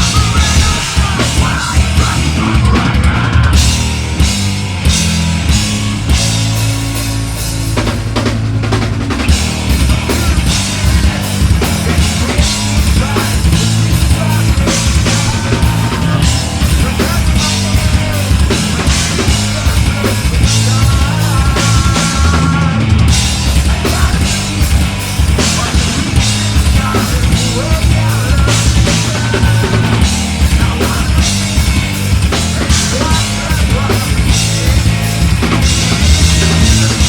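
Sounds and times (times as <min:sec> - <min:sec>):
heavy metal band playing: 0:00.0 - 0:37.0
pounding drum kit: 0:00.0 - 0:37.0.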